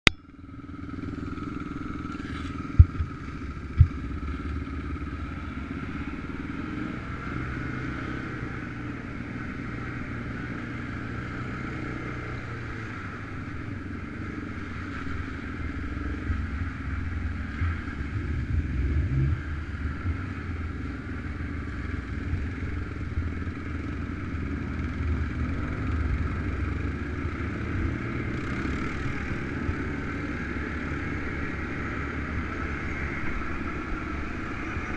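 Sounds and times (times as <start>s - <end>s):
atv engines running: 0.2s - 34.9s.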